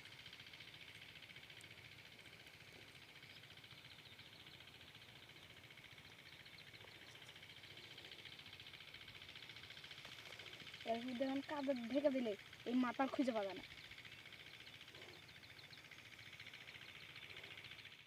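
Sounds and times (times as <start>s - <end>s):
diesel pump engine chugging: 0.0s - 18.0s.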